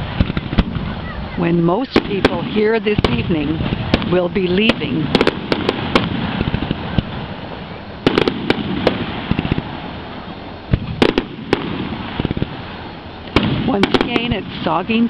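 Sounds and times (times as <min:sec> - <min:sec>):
fireworks bangs and crackles: 0:00.0 - 0:15.0
steady rumbling haze: 0:00.0 - 0:15.0.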